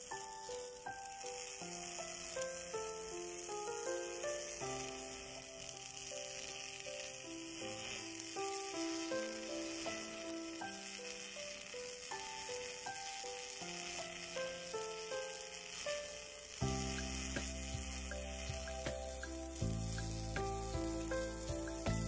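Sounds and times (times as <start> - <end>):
background music melody: 0.0 - 22.0
welding arc crackling: 0.0 - 22.0.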